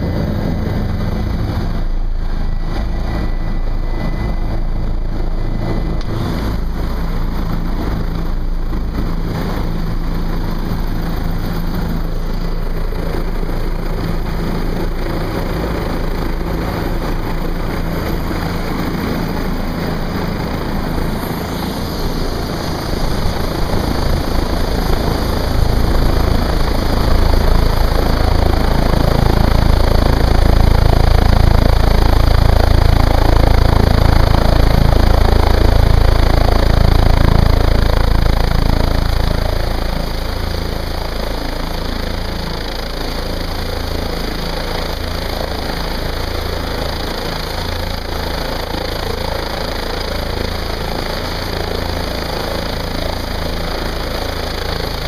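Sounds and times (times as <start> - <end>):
helicopter turbine and rotor: 0.0 - 55.0.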